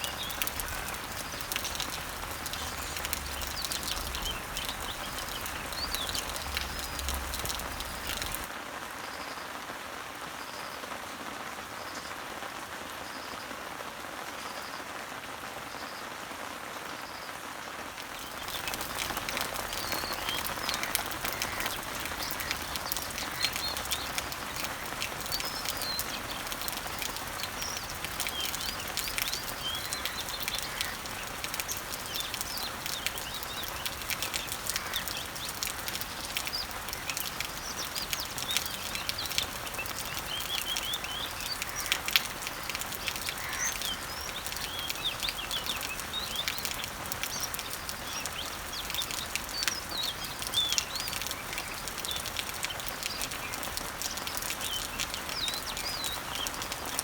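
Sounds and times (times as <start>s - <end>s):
birds chirping: 0.0s - 8.5s, 18.0s - 57.0s
rain falling on leaves: 0.0s - 57.0s.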